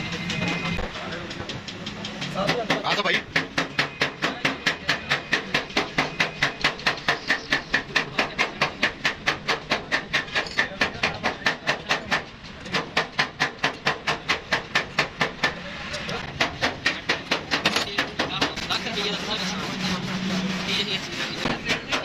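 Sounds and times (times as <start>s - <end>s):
rapid hammer blows: 0.0s - 22.0s.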